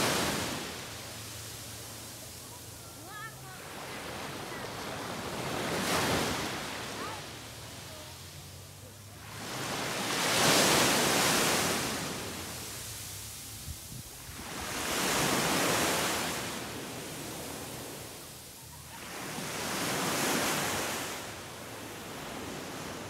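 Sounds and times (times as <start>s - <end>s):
small waves breaking on beach: 0.0s - 23.0s.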